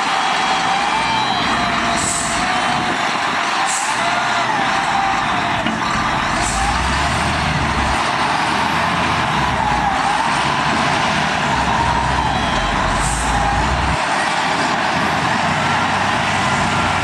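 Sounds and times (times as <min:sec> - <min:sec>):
diesel engine of heavy machinery: 0:00.0 - 0:17.0.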